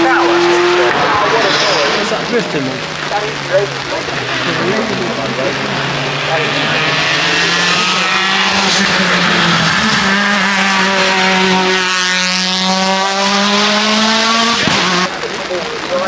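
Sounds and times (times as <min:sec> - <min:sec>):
car engine revving high: 0:00.0 - 0:16.0.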